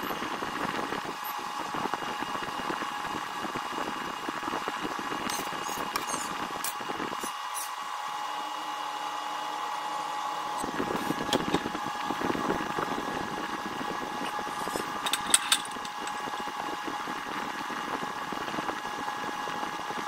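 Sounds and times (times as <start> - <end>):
steady hum: 0.0 - 8.8, 9.6 - 18.7.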